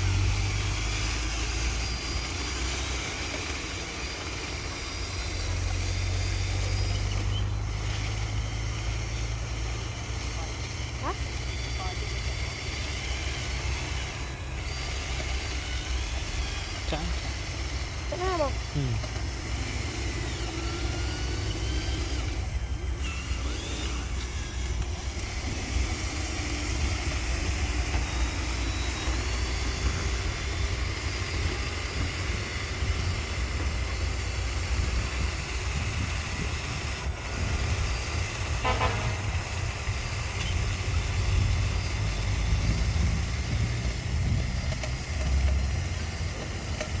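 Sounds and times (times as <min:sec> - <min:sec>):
toy truck motors whining: 0:00.0 - 0:47.0.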